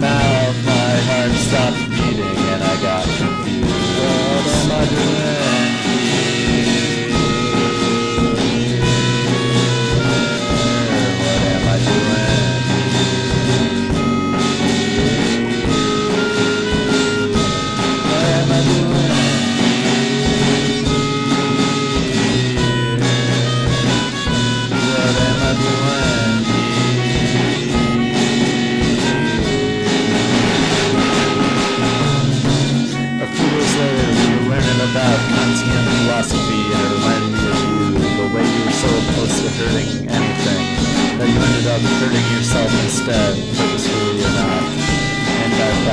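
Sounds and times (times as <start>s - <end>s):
instrumental band music: 0.0s - 45.9s.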